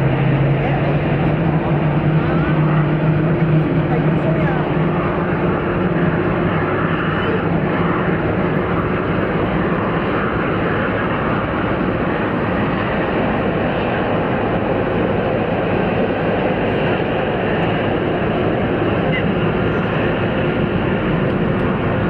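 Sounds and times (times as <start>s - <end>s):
jet aircraft engines roaring: 0.0s - 22.0s.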